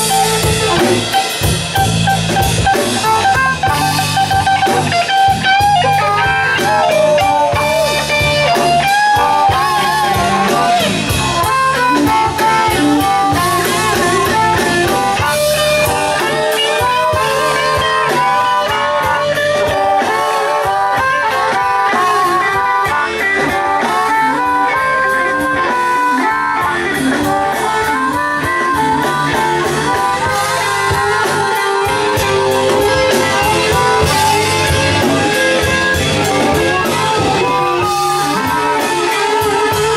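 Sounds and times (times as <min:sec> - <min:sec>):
bass guitar: 0:00.0 - 0:39.9
drum kit: 0:00.0 - 0:39.9
electric guitar lead: 0:00.0 - 0:39.9.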